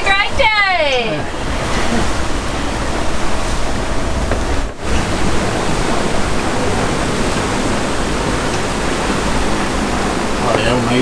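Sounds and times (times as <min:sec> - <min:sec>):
water streaming past hull: 0:00.0 - 0:11.0
heavy low rumble: 0:00.1 - 0:11.0.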